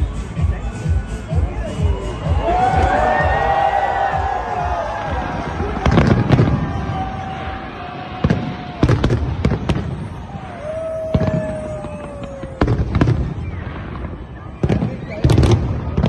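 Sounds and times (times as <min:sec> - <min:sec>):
fireworks crackle and rumble: 0:00.0 - 0:16.0
fireworks bangs: 0:01.8 - 0:16.0.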